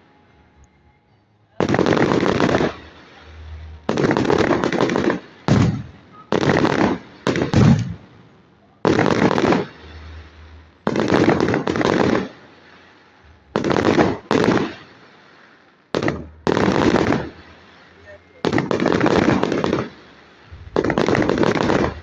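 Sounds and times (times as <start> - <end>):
fireworks crackling bangs: 1.6 - 22.0.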